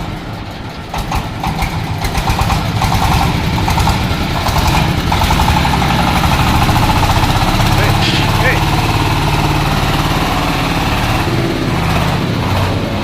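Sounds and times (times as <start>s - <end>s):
machine engine running: 0.0s - 13.0s.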